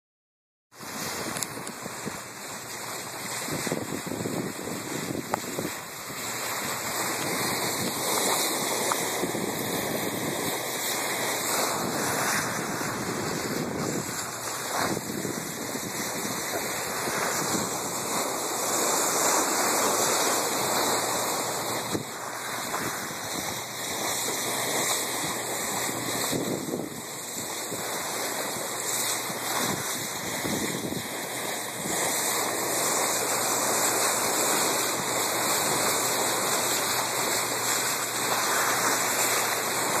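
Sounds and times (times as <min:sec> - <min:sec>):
ship bow wave rushing water: 0:00.7 - 0:40.0
wind buffeting microphone: 0:00.8 - 0:40.0.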